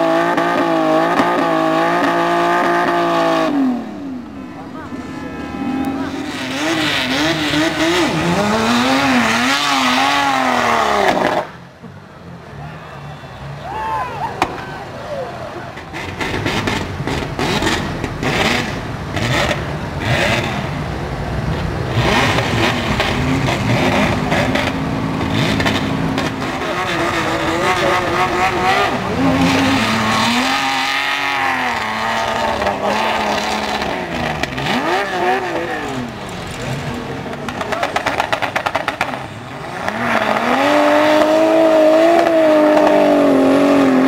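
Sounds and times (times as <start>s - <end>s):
off-road engine revving hard: 0.0s - 11.6s, 15.8s - 44.0s
crowd voices: 1.8s - 42.4s.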